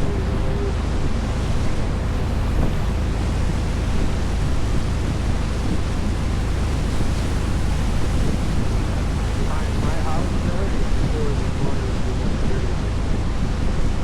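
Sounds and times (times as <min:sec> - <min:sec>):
boat engine humming: 0:00.0 - 0:14.0
water rushing past hull: 0:00.0 - 0:14.0
wind: 0:00.0 - 0:14.0.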